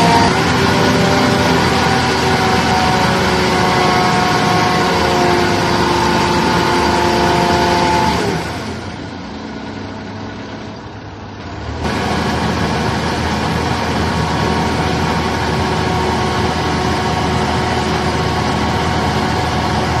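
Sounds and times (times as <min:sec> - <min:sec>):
diesel engine running under load: 0:00.0 - 0:20.0
hydraulic whine: 0:00.0 - 0:20.0.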